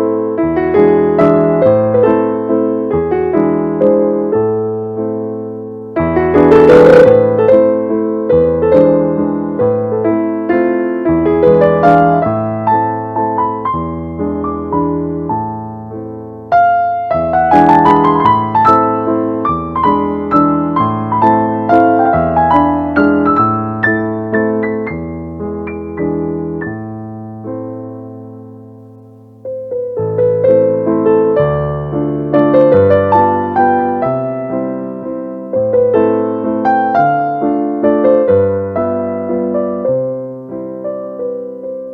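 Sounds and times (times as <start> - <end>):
calm piano music: 0.0 - 41.9.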